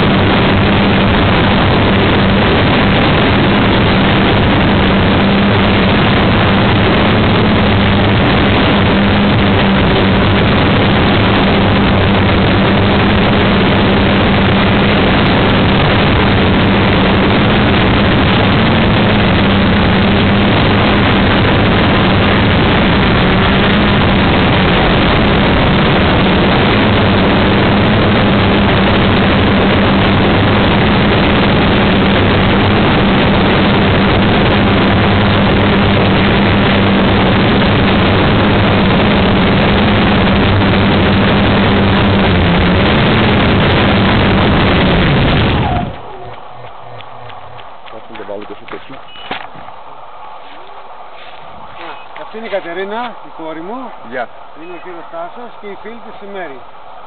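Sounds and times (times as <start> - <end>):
drone propellers rushing: 0.0 - 57.0
low motor hum: 0.0 - 57.0.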